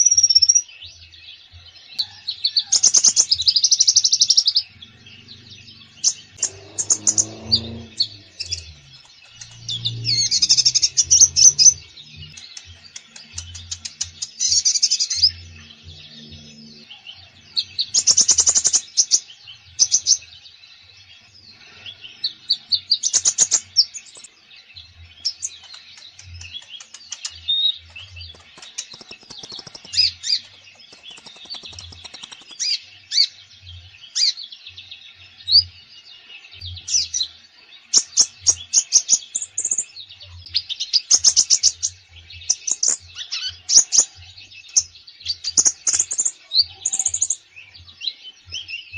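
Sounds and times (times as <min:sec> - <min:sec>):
songbird chirping and trilling: 0:00.0 - 0:48.9.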